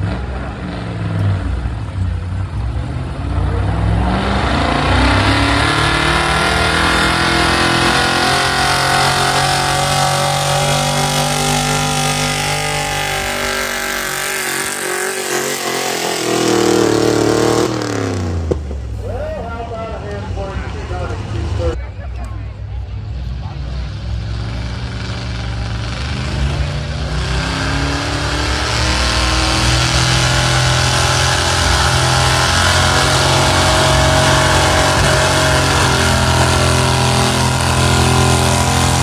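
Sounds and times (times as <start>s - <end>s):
truck engine at full throttle: 0.0s - 39.0s.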